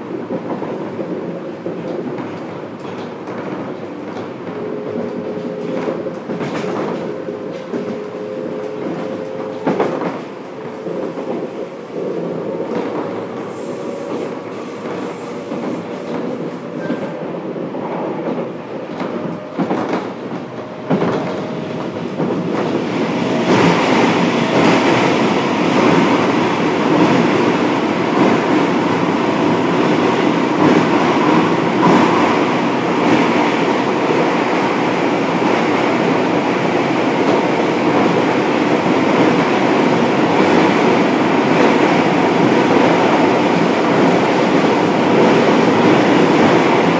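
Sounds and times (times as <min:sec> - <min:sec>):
train running noise: 0:00.0 - 0:46.9.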